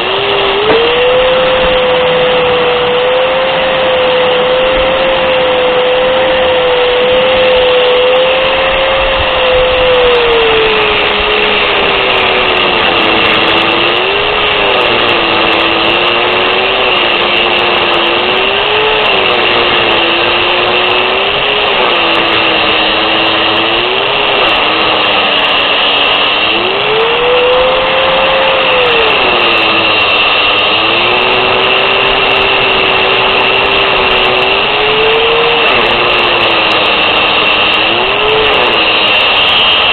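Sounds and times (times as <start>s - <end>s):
angle grinder running: 0.0s - 39.9s.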